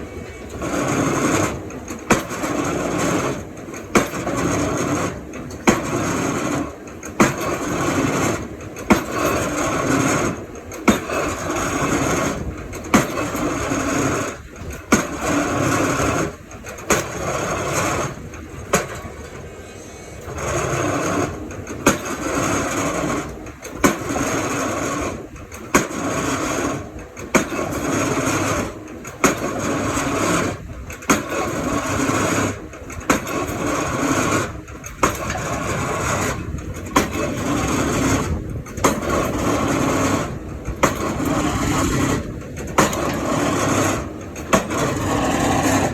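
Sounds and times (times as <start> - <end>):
diesel engine under load: 0.0 - 45.9.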